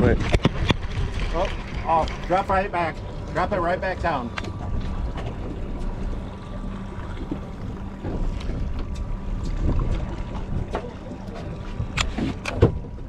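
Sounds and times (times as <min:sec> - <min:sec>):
steady low hum: 0:00.0 - 0:13.0
wind rumbling on microphone: 0:00.0 - 0:13.0.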